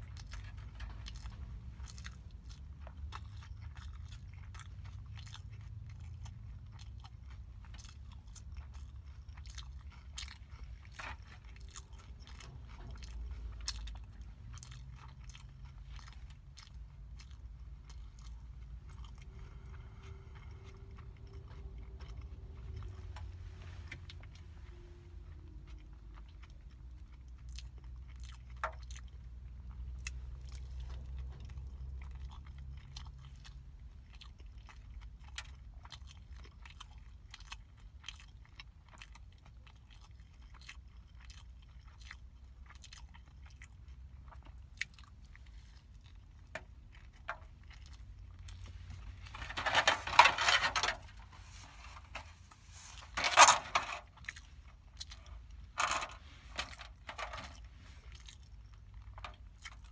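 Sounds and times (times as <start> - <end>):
crunching while chewing: 0.0 - 59.9.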